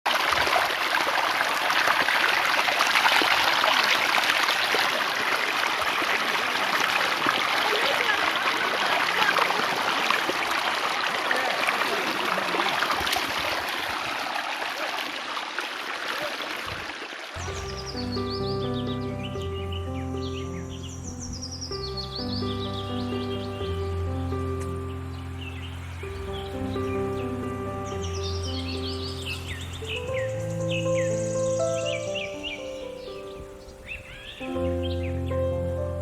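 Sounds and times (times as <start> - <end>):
stream water rushing: 0.1 - 34.7.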